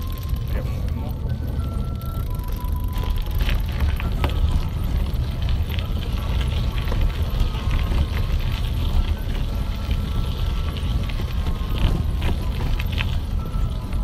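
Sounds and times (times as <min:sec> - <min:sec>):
bicycle tyres crunching on gravel: 0:00.0 - 0:14.0.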